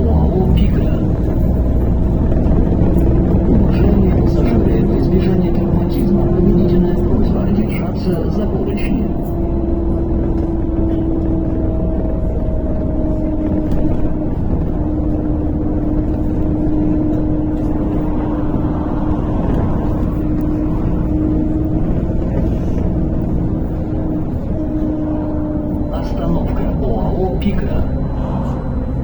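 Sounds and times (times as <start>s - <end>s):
bus engine drone: 0.0s - 29.0s
drivetrain whine: 0.0s - 29.0s
road rumble: 0.0s - 29.0s.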